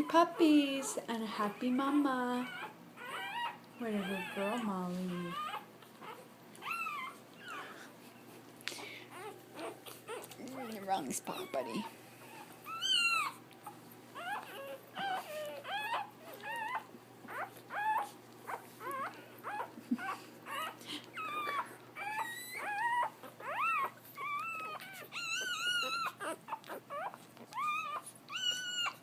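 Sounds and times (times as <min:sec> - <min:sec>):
puppies whimpering and squealing: 0:00.0 - 0:29.0.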